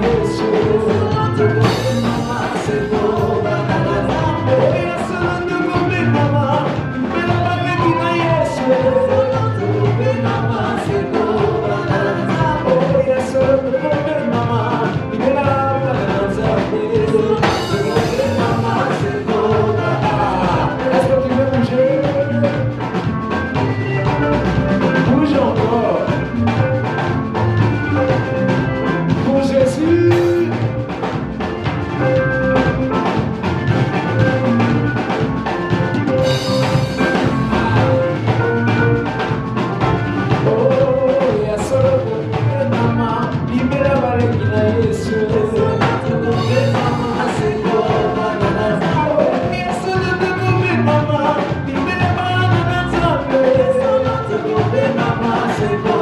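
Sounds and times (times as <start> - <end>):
drum kit beat: 0.0 - 56.0
gospel band playing: 0.0 - 56.0
voices singing: 0.0 - 56.0.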